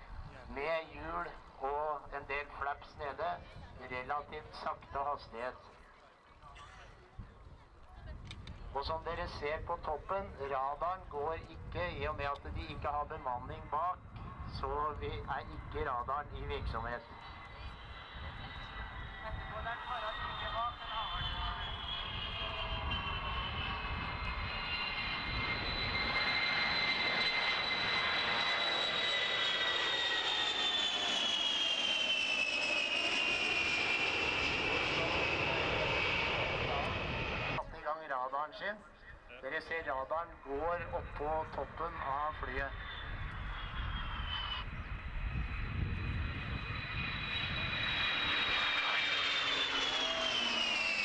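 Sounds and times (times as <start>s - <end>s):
jet engine whine passing by: 0.0s - 5.7s, 8.4s - 38.1s, 39.2s - 51.0s.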